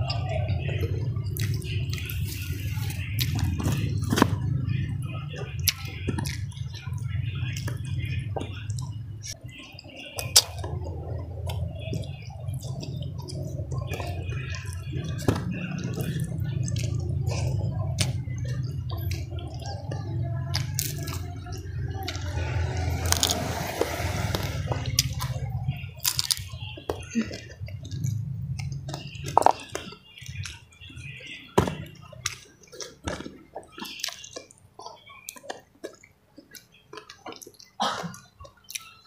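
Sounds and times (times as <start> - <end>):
mouth clicks: 0.0 - 39.0
person chewing with wet smacking: 0.0 - 39.0.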